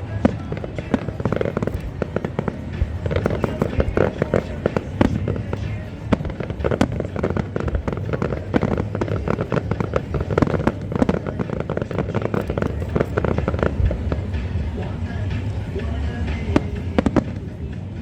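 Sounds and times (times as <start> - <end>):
fireworks bangs and crackling: 0.0 - 15.3.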